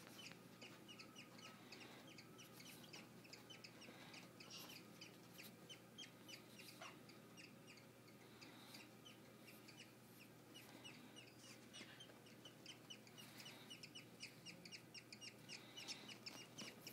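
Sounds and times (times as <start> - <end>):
baby budgies peeping: 0.0 - 16.9.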